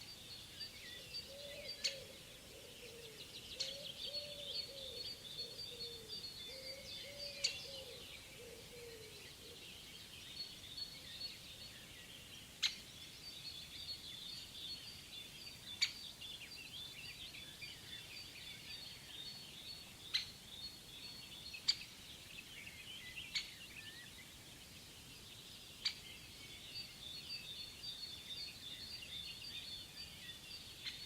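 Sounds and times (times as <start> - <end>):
songbirds chirping and singing: 0.0 - 31.0.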